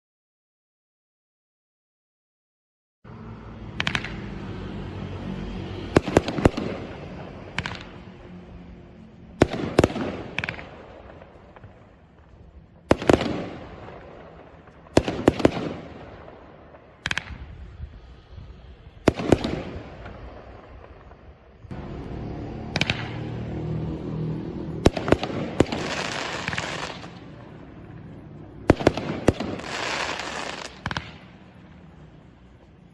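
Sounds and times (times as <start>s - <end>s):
fireworks bangs and crackle: 3.7s - 32.9s.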